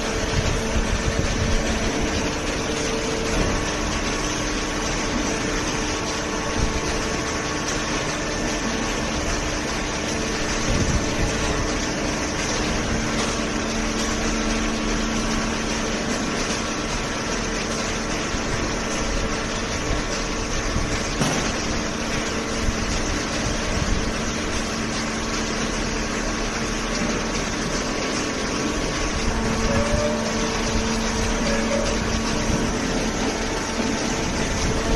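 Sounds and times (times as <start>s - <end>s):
hydraulic press humming: 0.0s - 34.9s.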